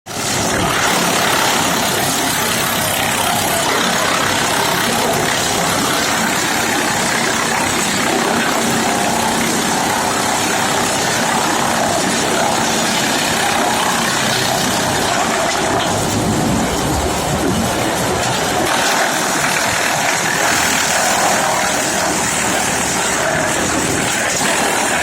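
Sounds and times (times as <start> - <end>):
wood chipper running: 0.1 - 25.0.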